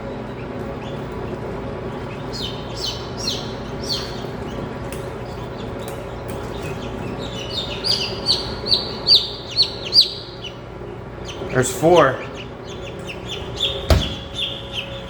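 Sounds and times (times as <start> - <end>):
chicks peeping: 0.0 - 15.0
steady low hum: 0.0 - 15.0.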